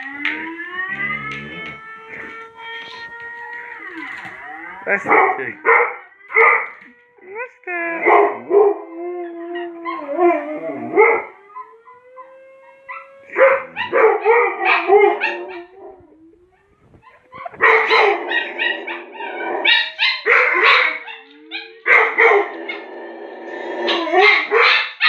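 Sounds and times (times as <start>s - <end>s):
air raid siren: 0.0s - 24.6s
dogs barking and howling: 0.0s - 25.0s.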